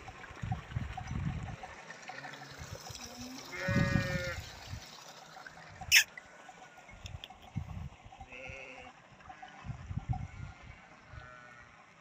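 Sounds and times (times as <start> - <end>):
stream running water: 0.0 - 12.0.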